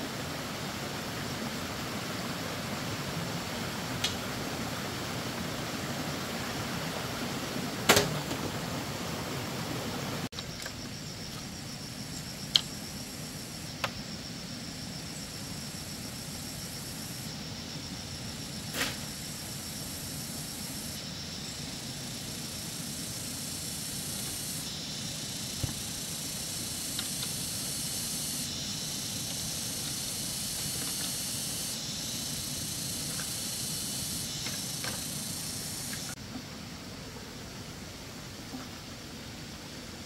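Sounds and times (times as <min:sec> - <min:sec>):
steady high hiss: 0:00.0 - 0:40.0.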